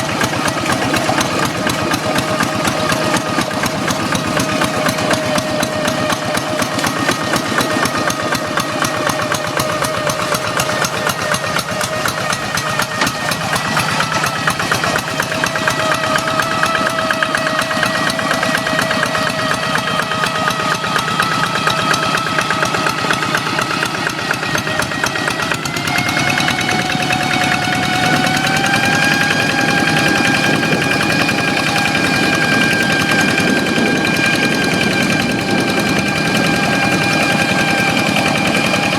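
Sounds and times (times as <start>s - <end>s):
diesel engine running: 0.0s - 38.9s
high whining tone: 0.0s - 38.9s.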